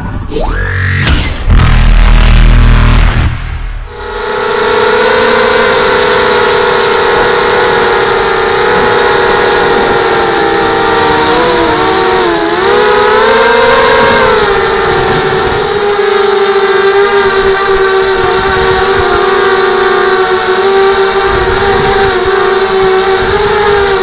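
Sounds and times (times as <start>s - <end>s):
quadcopter motors whining: 3.8s - 24.0s.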